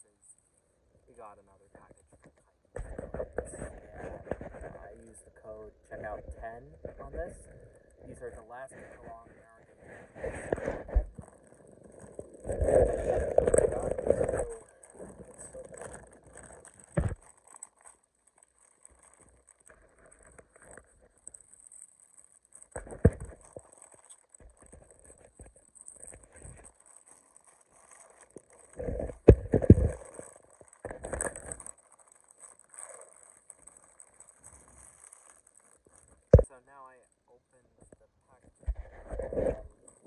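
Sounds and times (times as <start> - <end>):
rustling and scraping: 1.7 - 5.0, 6.0 - 36.5, 37.8 - 40.0.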